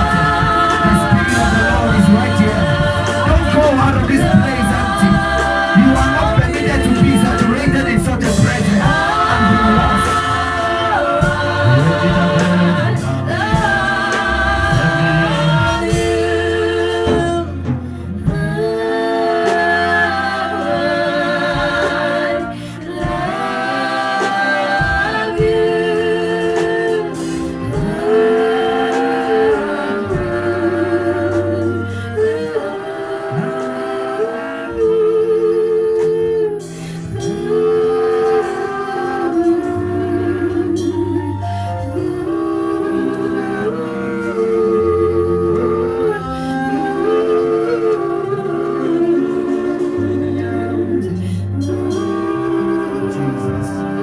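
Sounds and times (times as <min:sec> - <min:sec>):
gospel singing with vibrato: 0:00.0 - 0:54.0
instrumental backing with bass: 0:00.0 - 0:54.0.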